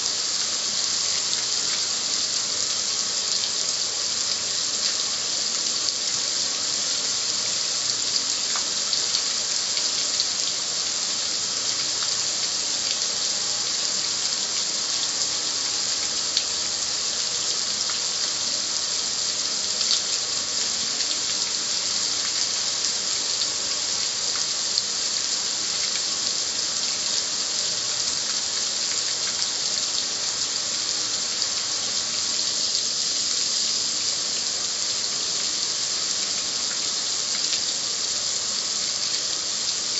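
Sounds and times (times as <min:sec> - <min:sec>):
water running off: 0:00.0 - 0:39.9.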